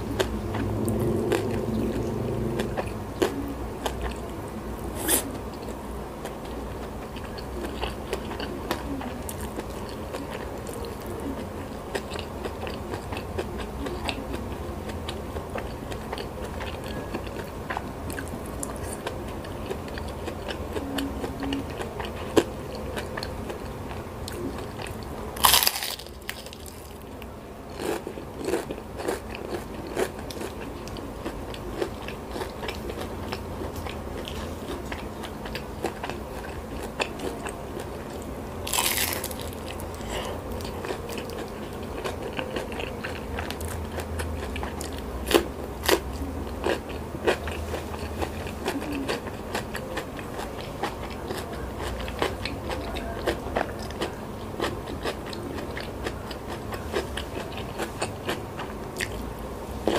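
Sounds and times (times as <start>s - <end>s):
person chewing crispy food: 0.0s - 59.9s.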